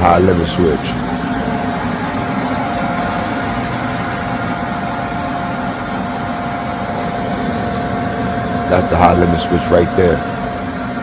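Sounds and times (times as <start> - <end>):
blower rushing air with whine: 0.0 - 11.0.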